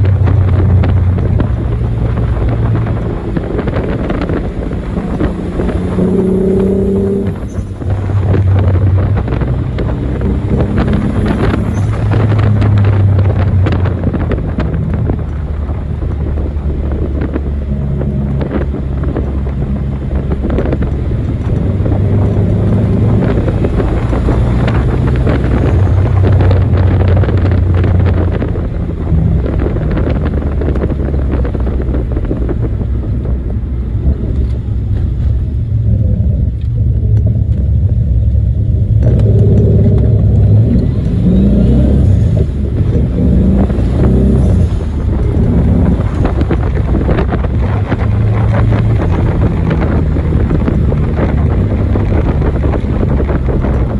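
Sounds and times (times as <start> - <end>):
car engine revving: 0.0 - 53.9
road and wind noise: 0.0 - 53.9.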